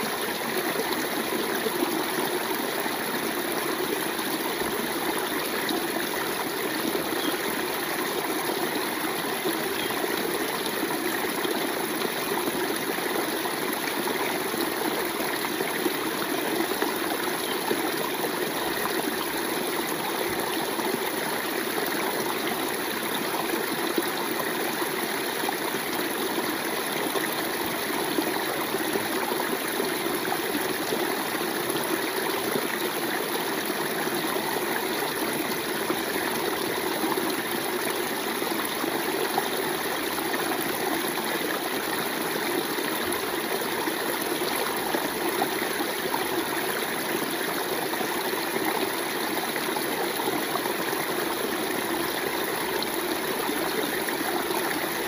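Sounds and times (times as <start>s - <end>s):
stream flowing water: 0.0s - 55.0s.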